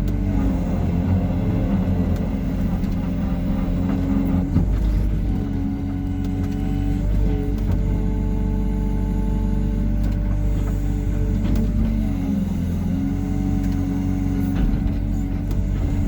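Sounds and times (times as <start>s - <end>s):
diesel excavator engine running: 0.0s - 16.0s.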